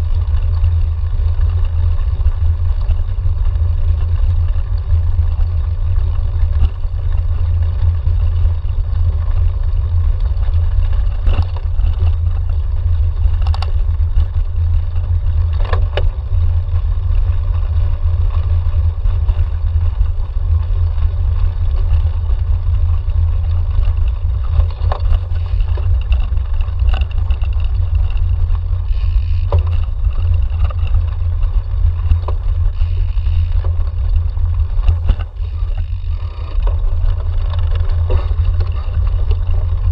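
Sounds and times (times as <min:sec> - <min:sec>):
bike knocks and rattles: 0:00.0 - 0:39.9
wind and frame rumble: 0:00.0 - 0:39.9.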